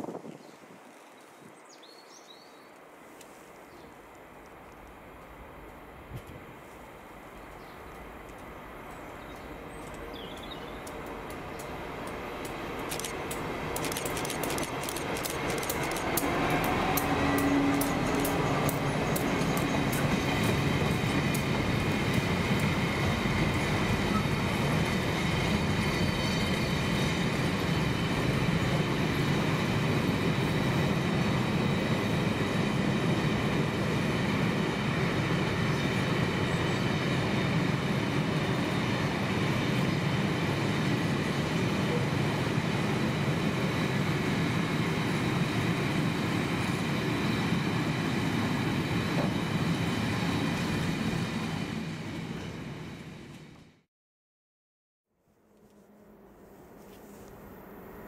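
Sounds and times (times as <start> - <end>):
train wheels rumbling on rail: 4.6 - 53.8.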